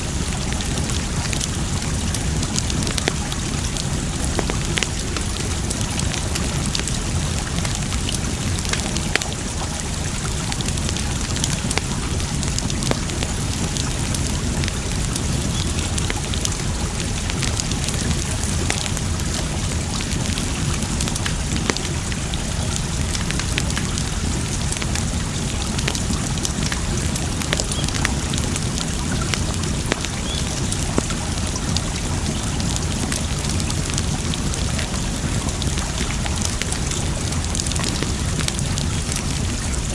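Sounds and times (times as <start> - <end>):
running water rushing: 0.0 - 39.9
wood fire crackling and popping: 0.0 - 39.9.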